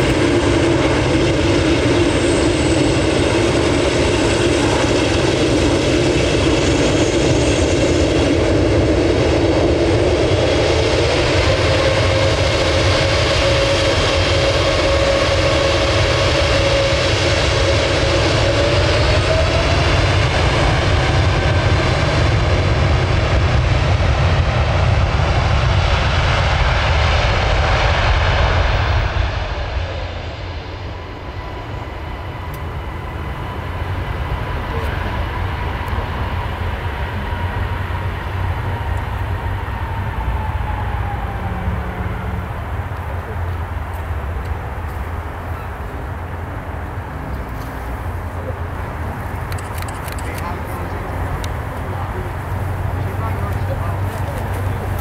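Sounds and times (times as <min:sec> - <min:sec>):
jet engines whining and rumbling: 0:00.0 - 0:55.0.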